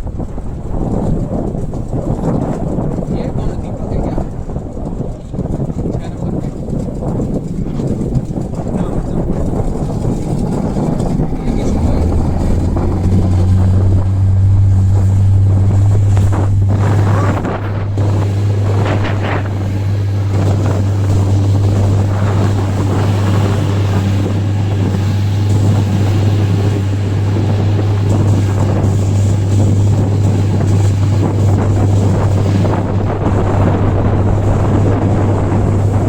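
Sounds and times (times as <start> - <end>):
motorboat engine humming: 0.0 - 36.0
wind rushing over microphone: 0.0 - 36.0.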